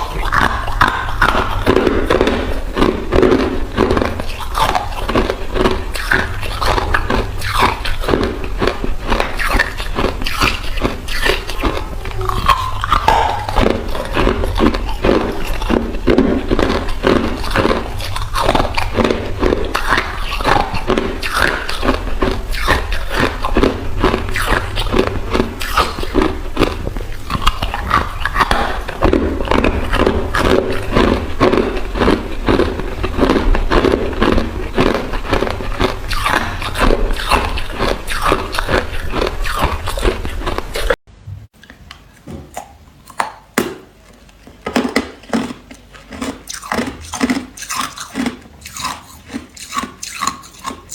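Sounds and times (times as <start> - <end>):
person crunching ice: 0.0 - 40.9, 44.7 - 50.9.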